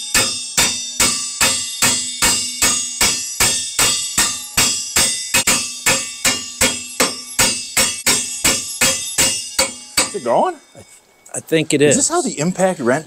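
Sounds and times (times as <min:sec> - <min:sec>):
hammers striking metal wrench: 0:00.0 - 0:11.0
metallic ringing: 0:00.0 - 0:12.7.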